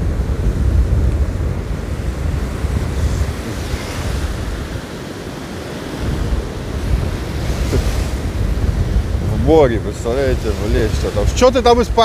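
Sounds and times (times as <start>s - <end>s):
sea surf breaking: 0.0s - 12.0s
wind buffeting microphone: 0.0s - 12.0s.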